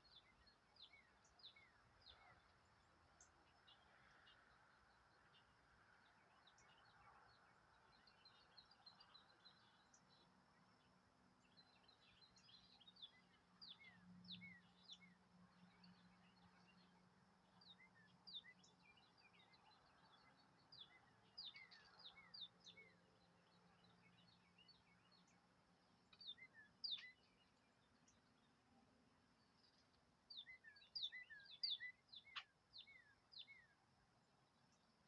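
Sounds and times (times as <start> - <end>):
small birds chirping: 0.0 - 28.7, 29.3 - 35.0.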